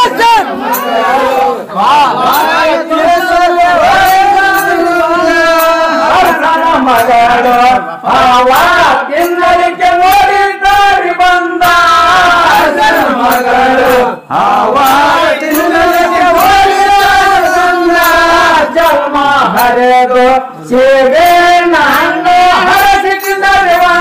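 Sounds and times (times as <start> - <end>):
men singing chant-like: 0.0 - 24.0.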